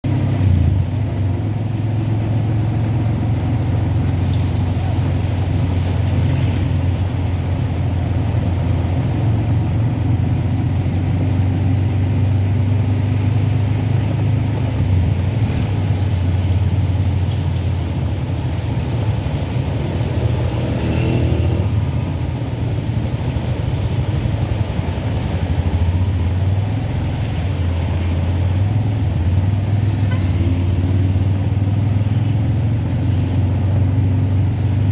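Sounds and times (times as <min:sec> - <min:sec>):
car driving on wet road: 0:00.0 - 0:34.9
heavy rain: 0:00.0 - 0:34.9.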